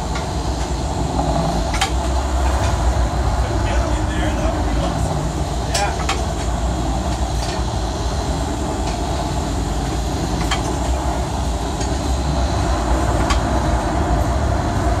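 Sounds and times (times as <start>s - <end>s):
boat engines running: 0.0s - 15.0s
wind and sea noise: 0.0s - 15.0s.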